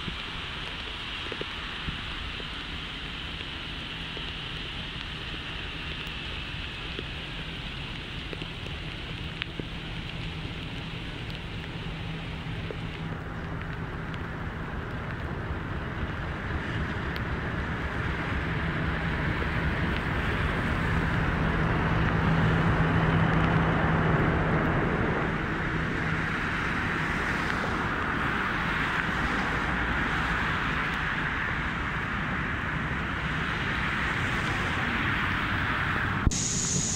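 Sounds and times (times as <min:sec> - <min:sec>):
diesel locomotive engine: 0:02.8 - 0:36.9.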